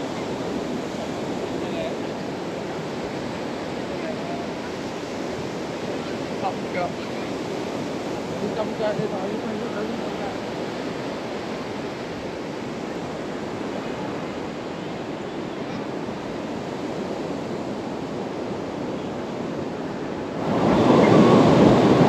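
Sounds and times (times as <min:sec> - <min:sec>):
sea surf: 0:00.0 - 0:22.0
wind: 0:00.0 - 0:22.0.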